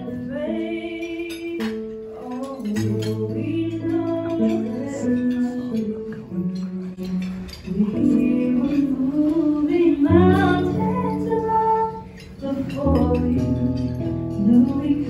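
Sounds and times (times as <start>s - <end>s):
woman singing into microphone: 0.0s - 15.0s.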